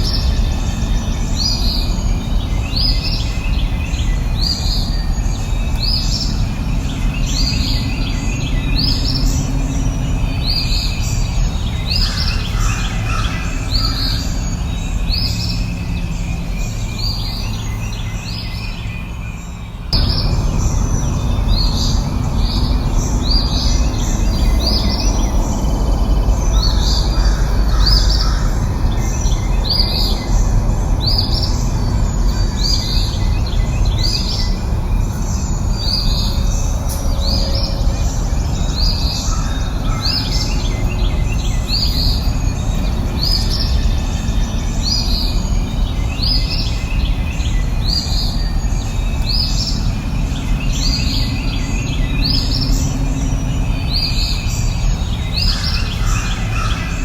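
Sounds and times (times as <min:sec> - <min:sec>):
bird chirping: 0:00.0 - 0:57.0
rushing background noise: 0:00.0 - 0:57.0.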